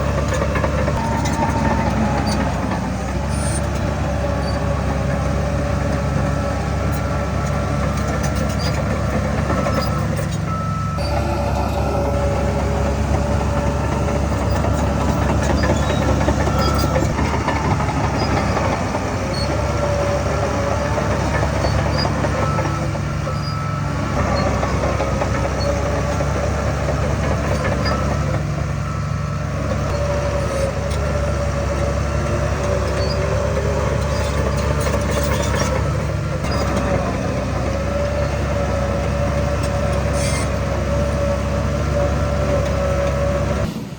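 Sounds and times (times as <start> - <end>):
heavy diesel machinery engine drone: 0.0 - 43.9.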